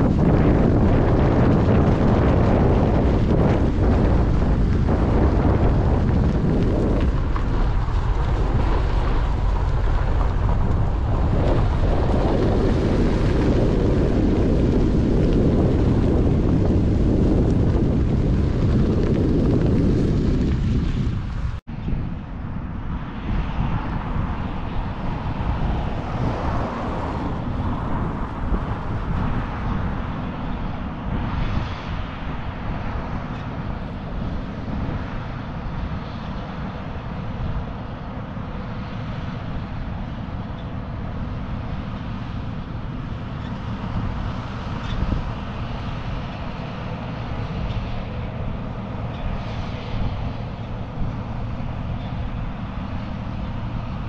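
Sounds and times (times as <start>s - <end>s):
moving vehicle rumble: 0.0s - 54.0s
steady machine rumble: 0.0s - 54.0s
wind buffeting microphone: 0.0s - 54.0s.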